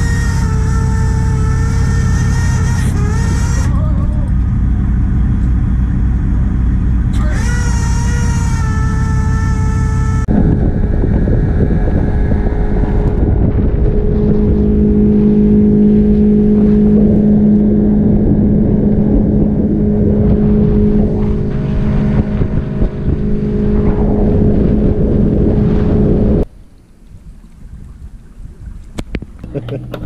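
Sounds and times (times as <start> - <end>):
outboard motor running: 0.0 - 26.5, 27.8 - 30.0.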